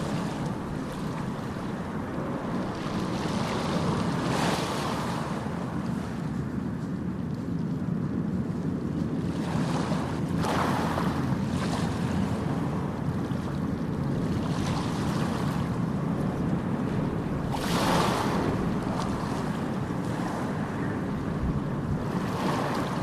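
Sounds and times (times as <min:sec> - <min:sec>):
wave breaking and washing in: 0:00.0 - 0:23.0
waves rumbling: 0:00.0 - 0:23.0.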